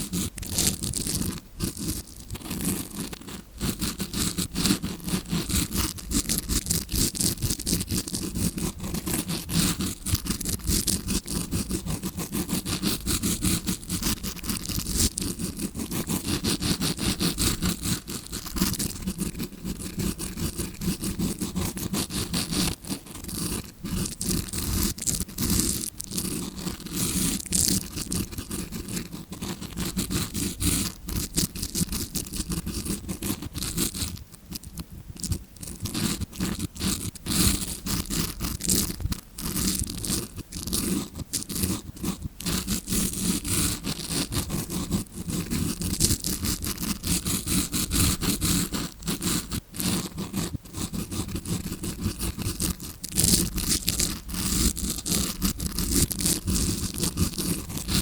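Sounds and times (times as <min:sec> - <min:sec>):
brush scratching microphone: 0:00.0 - 0:58.0.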